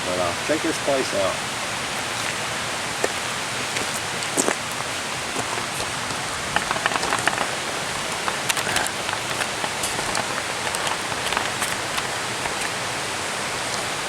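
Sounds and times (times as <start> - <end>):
rushing outdoor noise: 0.0 - 14.0.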